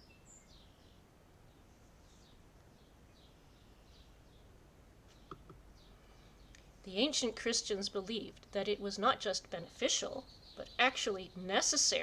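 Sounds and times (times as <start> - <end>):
background hiss: 0.0 - 12.0
faint bird chirps: 0.0 - 12.0.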